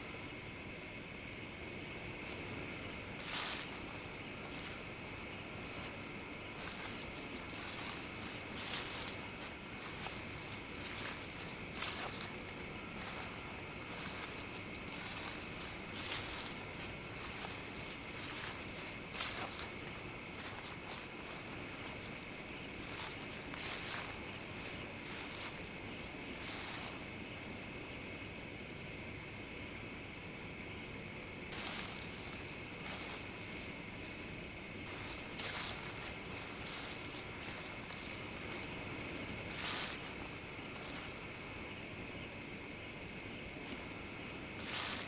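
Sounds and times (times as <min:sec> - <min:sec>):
night insects trilling: 0:00.0 - 0:45.0
footsteps rustling through leaves: 0:01.8 - 0:27.7, 0:31.3 - 0:45.0.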